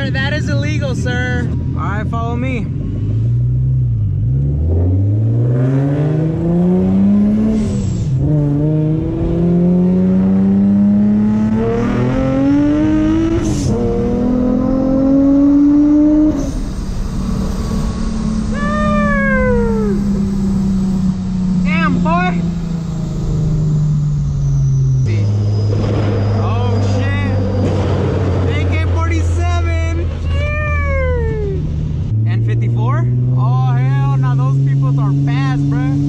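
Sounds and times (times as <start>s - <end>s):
car engine accelerating through gears: 2.7s - 36.0s.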